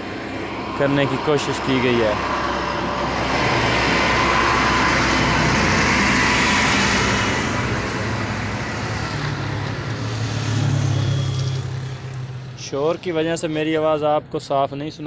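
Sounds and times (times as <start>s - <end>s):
rushing sound: 0.0s - 12.7s.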